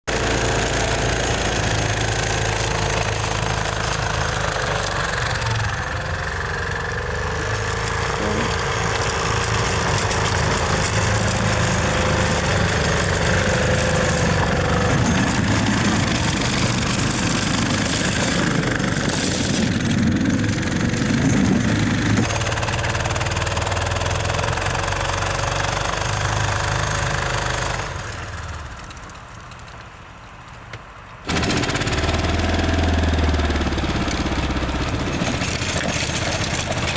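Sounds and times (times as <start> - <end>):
small engine running under load: 0.1 - 29.1, 31.3 - 36.9.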